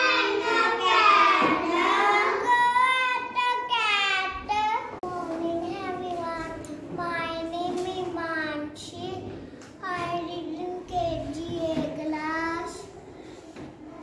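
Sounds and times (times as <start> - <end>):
girl reading in sing-song chant: 0.0 - 13.7.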